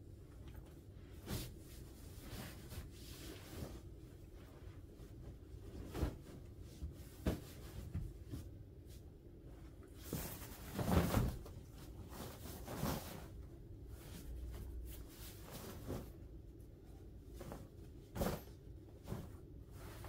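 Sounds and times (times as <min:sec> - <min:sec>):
bed sheet rustling: 0:00.2 - 0:20.0.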